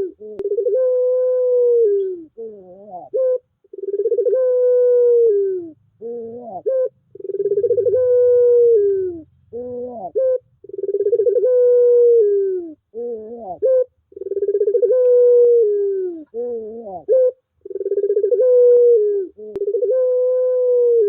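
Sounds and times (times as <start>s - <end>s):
dove cooing: 0.0s - 21.0s.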